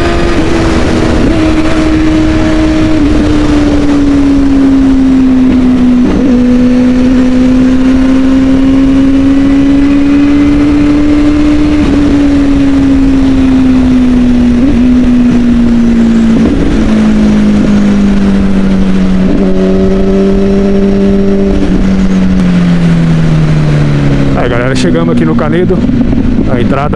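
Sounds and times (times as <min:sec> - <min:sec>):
motorcycle engine cruising: 0:00.0 - 0:26.9
wind noise on microphone: 0:00.0 - 0:26.9.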